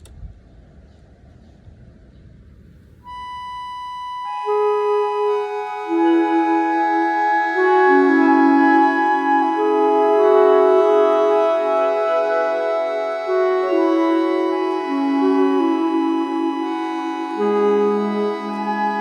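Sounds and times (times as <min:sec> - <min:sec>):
clarinet: 0:03.1 - 0:19.0
sustained organ chords: 0:03.1 - 0:19.0.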